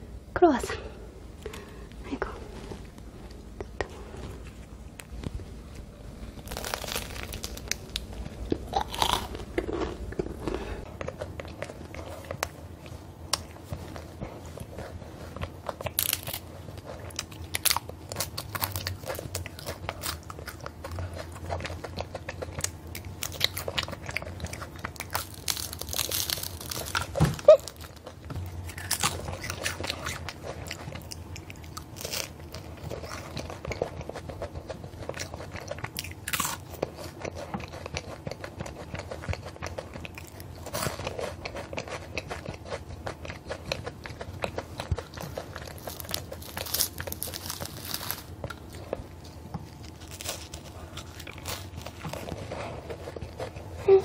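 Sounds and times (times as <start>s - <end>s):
croissant crunching while chewed: 2.5s - 54.0s.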